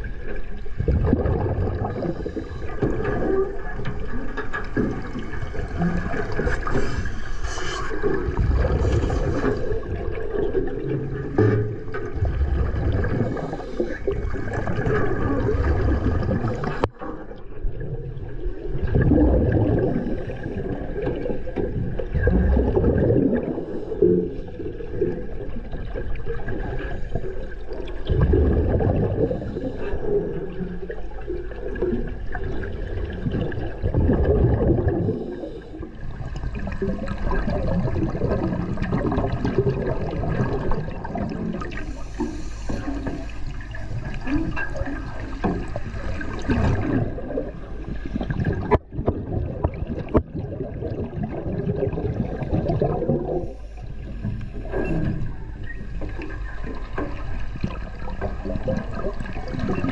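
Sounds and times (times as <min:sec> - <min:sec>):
muffled underwater sloshing: 0:00.0 - 0:59.9.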